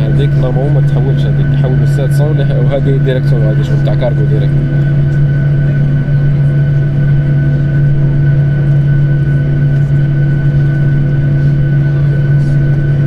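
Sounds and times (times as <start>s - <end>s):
jet engines droning in cabin: 0.0s - 13.0s.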